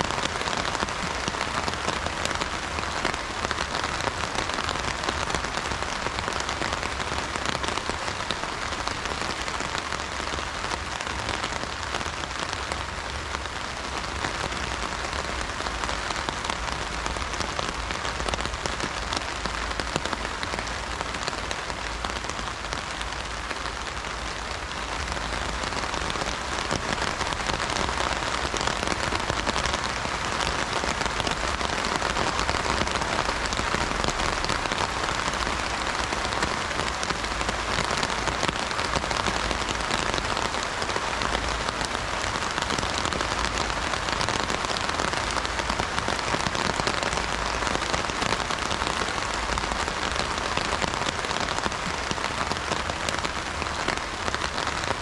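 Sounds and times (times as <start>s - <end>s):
rain drumming on an umbrella: 0.0s - 55.0s.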